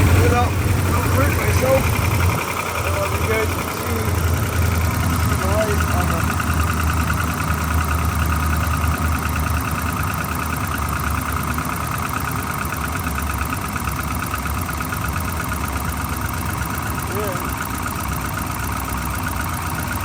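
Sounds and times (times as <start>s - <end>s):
truck engine idling with misfire: 0.0s - 20.0s.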